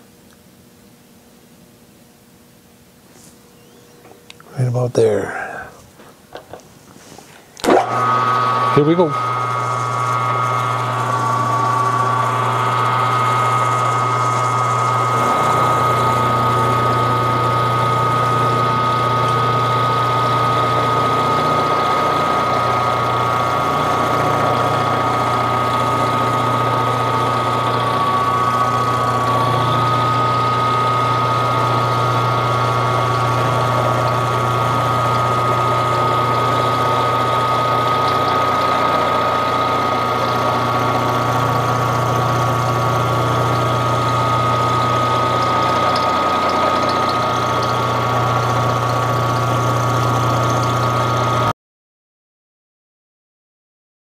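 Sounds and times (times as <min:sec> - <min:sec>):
mill drill humming and whining: 0:07.3 - 0:51.5.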